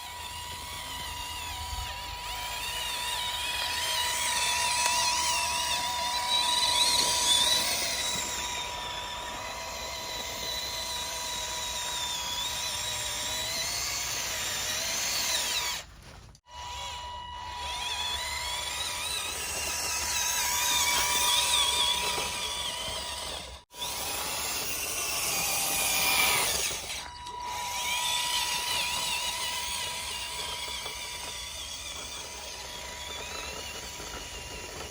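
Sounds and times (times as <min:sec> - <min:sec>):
small electric motors whining: 0:00.0 - 0:34.9.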